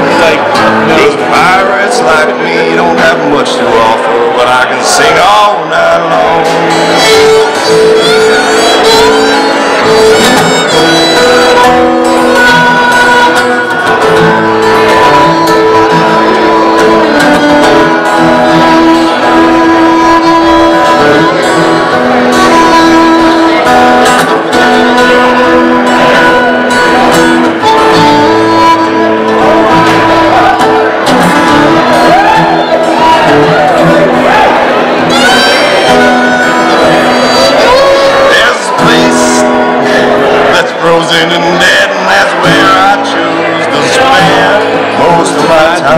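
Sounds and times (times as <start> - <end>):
fiddle bowing long notes: 0.0 - 45.9
guitar accompaniment: 0.0 - 45.9.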